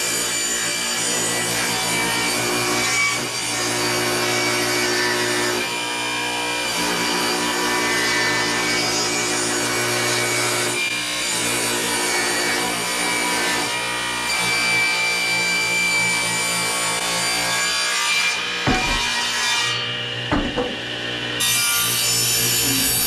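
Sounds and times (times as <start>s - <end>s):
table saw ripping boards: 0.0s - 23.0s.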